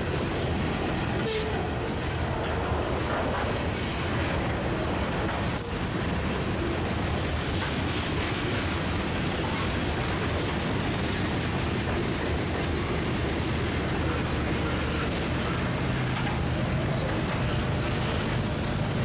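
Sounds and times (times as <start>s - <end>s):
freight train cars rolling: 0.0s - 19.0s.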